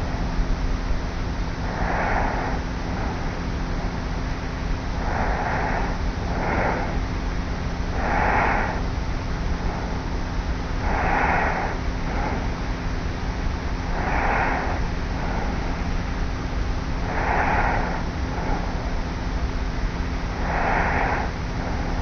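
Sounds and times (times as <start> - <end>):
faint low hum: 0.0 - 22.0
tape hiss: 0.0 - 22.0.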